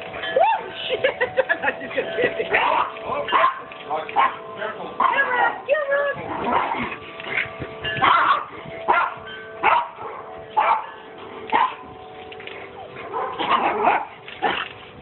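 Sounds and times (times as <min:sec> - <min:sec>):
puppies barking: 0:00.0 - 0:11.9, 0:12.6 - 0:14.8.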